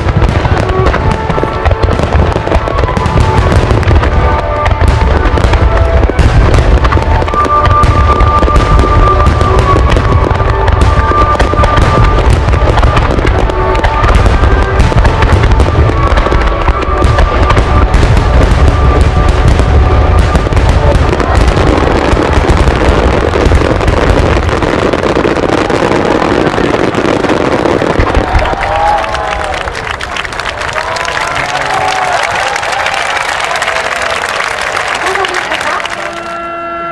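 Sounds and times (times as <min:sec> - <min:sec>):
fireworks booming and crackling: 0:00.0 - 0:36.9.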